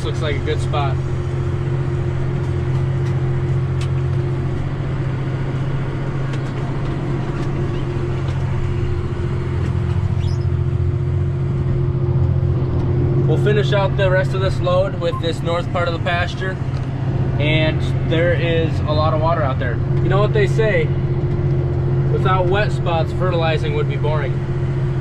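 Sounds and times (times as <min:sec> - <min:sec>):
steady hum: 0:00.0 - 0:25.0
tractor engine droning: 0:00.0 - 0:25.0.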